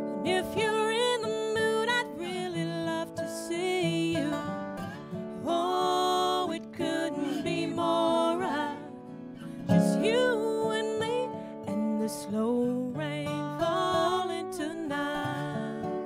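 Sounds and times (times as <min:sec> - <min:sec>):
acoustic guitar: 0:00.0 - 0:16.0
woman singing: 0:00.0 - 0:16.0.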